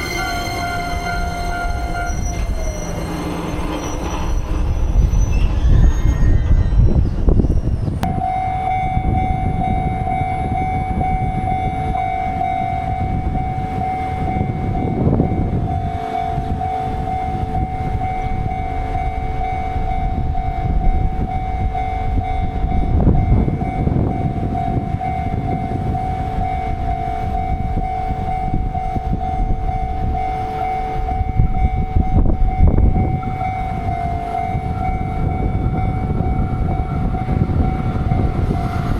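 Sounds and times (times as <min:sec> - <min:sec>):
steady high-pitched tone: 0:00.0 - 0:38.9
train rumbling by: 0:00.0 - 0:38.9.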